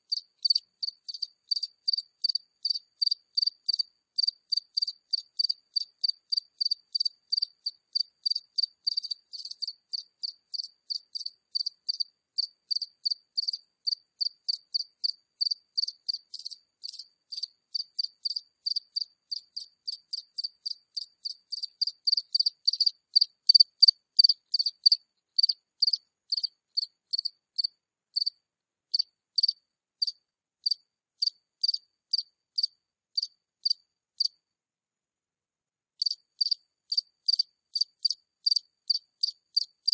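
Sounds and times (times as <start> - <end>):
cricket chirping: 0.0 - 34.4, 36.0 - 39.9.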